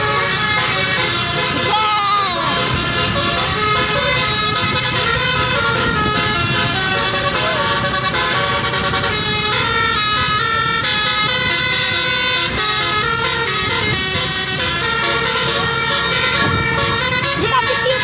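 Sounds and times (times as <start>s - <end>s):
bus engine rumble: 0.0s - 18.0s
multi-tone musical air horn melody: 0.0s - 18.0s
traffic: 0.0s - 18.0s.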